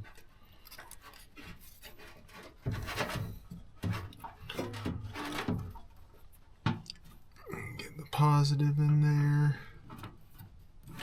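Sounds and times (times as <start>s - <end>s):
wires rubbing and scraping: 0.0s - 7.4s, 8.4s - 11.0s.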